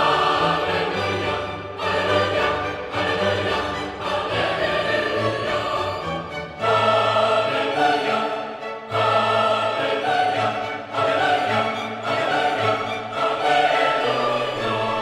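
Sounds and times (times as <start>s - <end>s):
orchestral music with choir: 0.0s - 15.0s.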